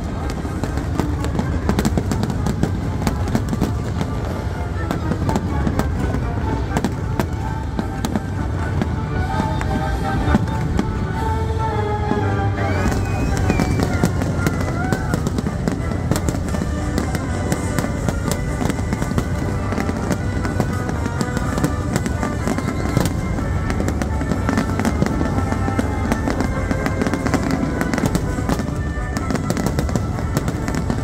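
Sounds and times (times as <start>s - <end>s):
fireworks bangs and crackling: 0.0s - 31.0s
orchestral music: 0.0s - 31.0s.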